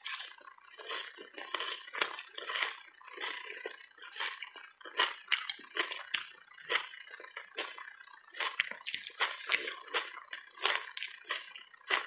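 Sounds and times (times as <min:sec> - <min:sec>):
chewing crunchy ice: 0:00.0 - 0:12.0.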